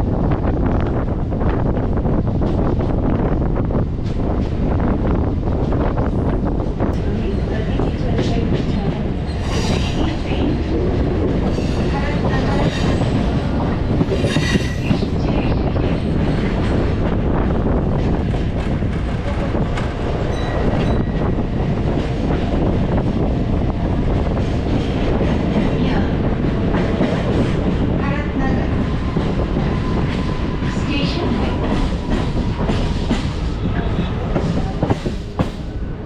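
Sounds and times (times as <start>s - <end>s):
train wheels on track: 0.0s - 36.0s.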